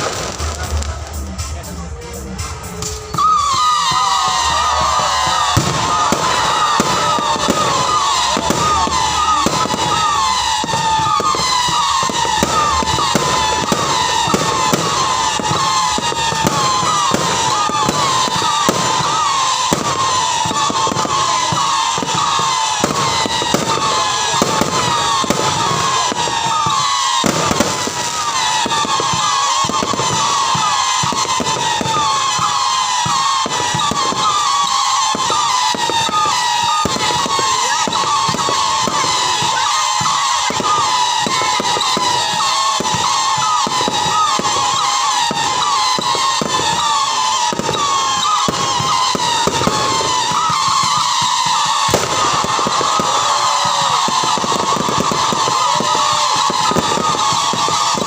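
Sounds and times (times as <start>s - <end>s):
firework bangs and crackles: 0.0s - 58.0s
whistling firework shells: 0.0s - 58.0s.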